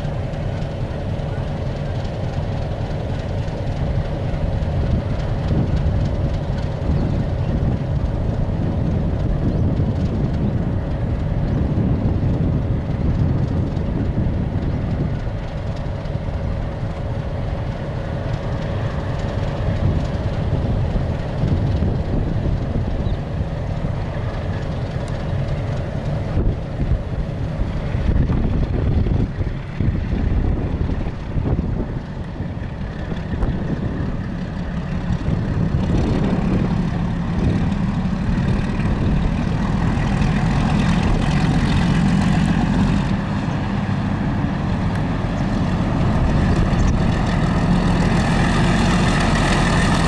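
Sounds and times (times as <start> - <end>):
train rumbling on track: 0.0 - 50.0.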